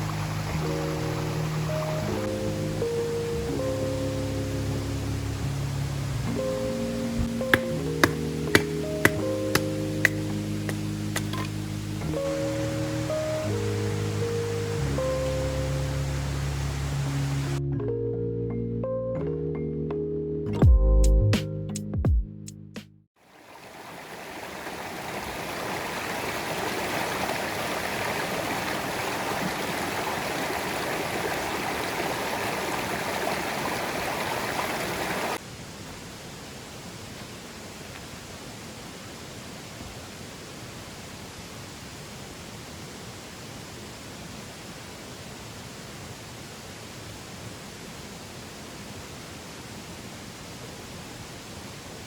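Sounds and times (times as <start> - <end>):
stream water rushing: 0.0 - 17.6, 23.2 - 52.0.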